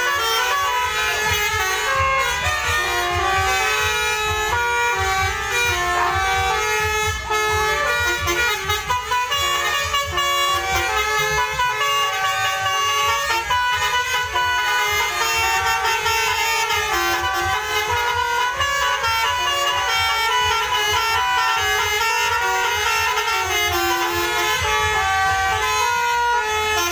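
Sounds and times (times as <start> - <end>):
bus musical air horn: 0.0 - 26.9
low engine rumble: 0.0 - 26.9.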